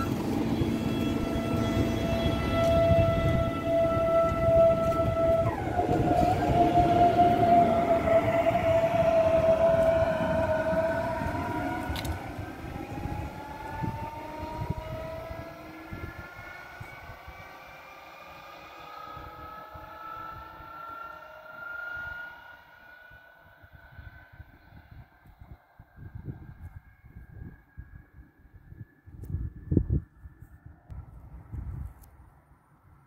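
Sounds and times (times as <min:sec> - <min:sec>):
electric train traction whine: 0:00.0 - 0:31.0.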